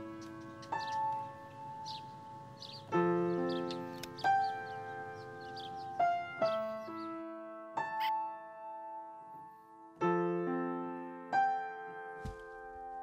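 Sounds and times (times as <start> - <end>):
slow sparse piano music: 0.0 - 13.0.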